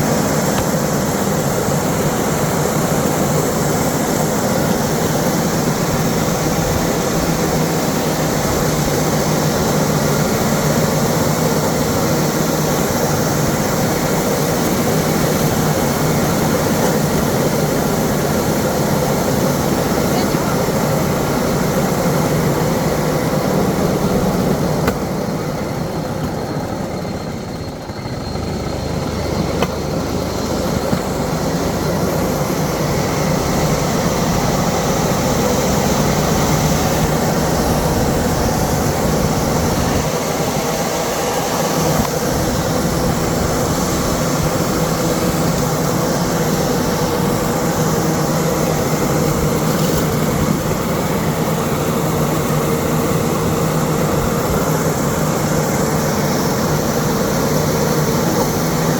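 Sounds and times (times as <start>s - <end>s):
vehicle engine running: 0.0s - 58.9s.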